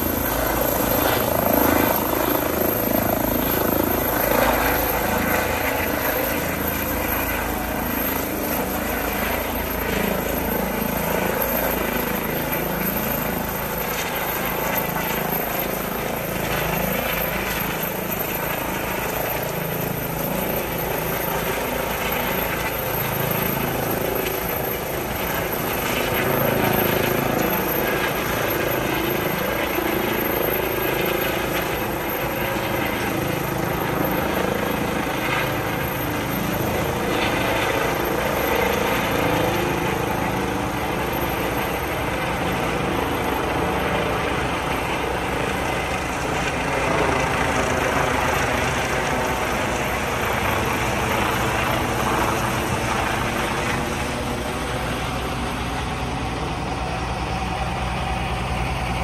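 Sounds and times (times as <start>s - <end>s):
helicopter rotor and turbines: 0.0s - 59.0s.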